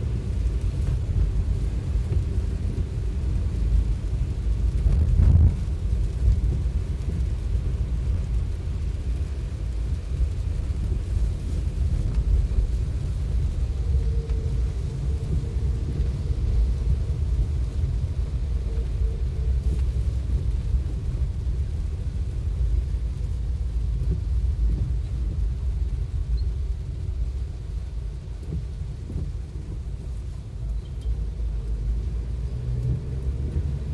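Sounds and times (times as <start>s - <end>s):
vehicle driving through heavy rain: 0.0s - 33.9s.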